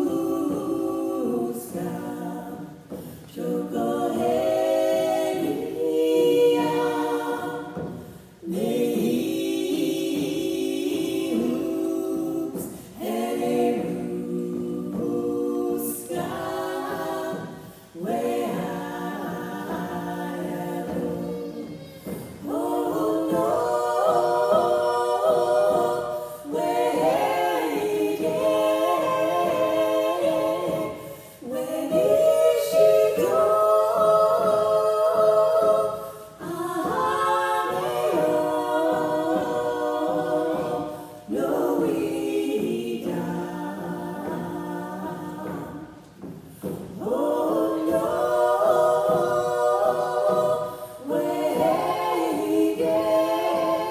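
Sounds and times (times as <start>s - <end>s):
women singing in harmony: 0.0s - 53.9s.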